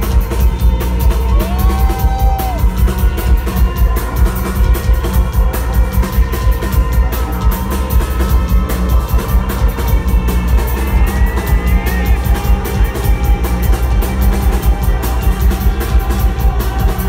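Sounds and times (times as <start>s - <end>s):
drum beat: 0.0s - 17.0s
heavy bass: 0.0s - 17.0s
live rock band playing: 0.0s - 17.0s.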